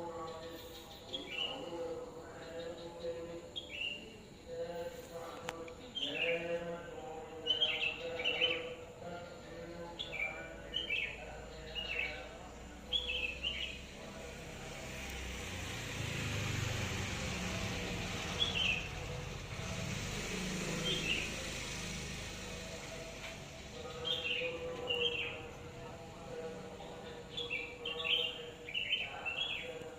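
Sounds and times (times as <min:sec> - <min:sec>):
bird chirping: 0:00.0 - 0:15.2, 0:17.4 - 0:19.7, 0:20.6 - 0:29.9.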